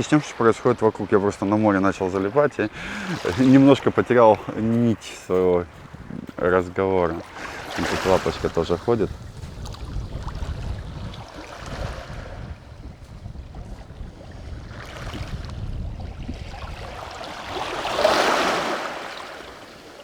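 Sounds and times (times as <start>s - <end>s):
waves washing onto stony beach: 0.0s - 20.0s
wind rumbling on microphone: 0.8s - 18.5s.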